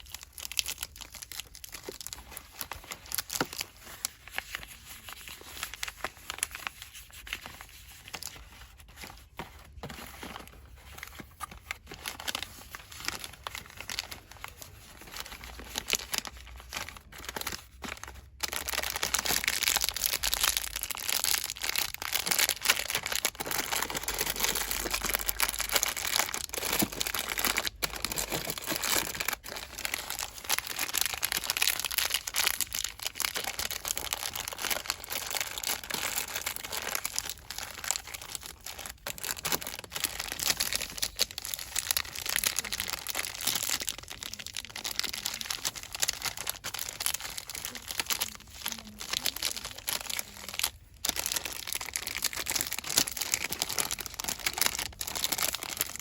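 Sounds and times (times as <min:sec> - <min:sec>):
plastic packaging crinkling: 0:00.0 - 0:56.0.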